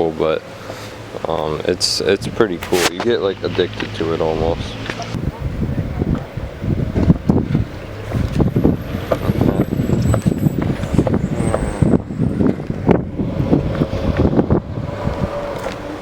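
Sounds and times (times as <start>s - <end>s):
wind buffeting microphone: 1.8s - 16.0s
scooter wheels rumbling on pavement: 2.0s - 16.0s.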